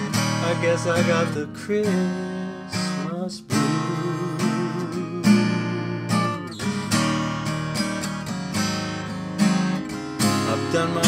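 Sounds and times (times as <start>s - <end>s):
acoustic guitar blues: 0.0s - 11.0s.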